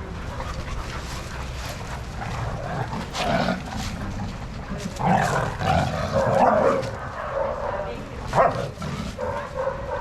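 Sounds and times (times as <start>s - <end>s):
dogs playing vocalizing: 0.0s - 10.0s.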